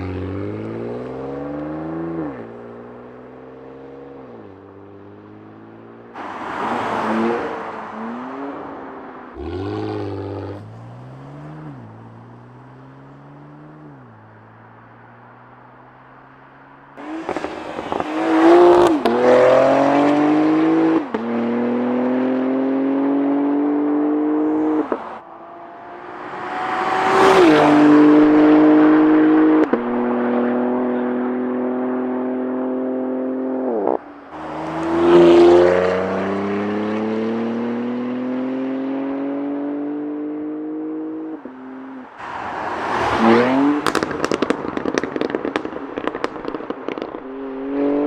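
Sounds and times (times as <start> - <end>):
car engine accelerating hard: 0.0 - 48.0.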